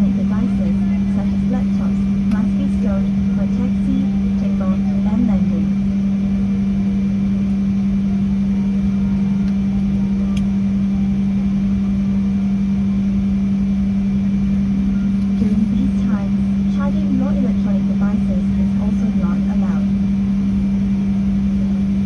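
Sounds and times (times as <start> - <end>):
airliner cabin hum and rumble: 0.0 - 22.0.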